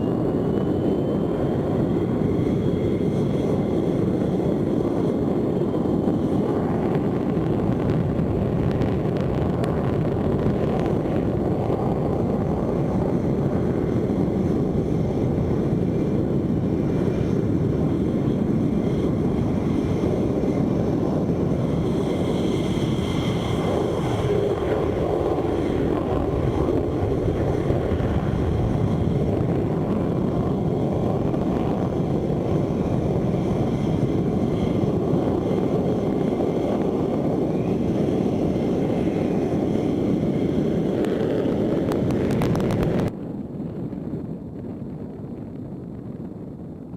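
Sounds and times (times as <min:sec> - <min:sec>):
faint high whine: 0:00.0 - 0:40.8
jet engine rumble: 0:00.0 - 0:46.9.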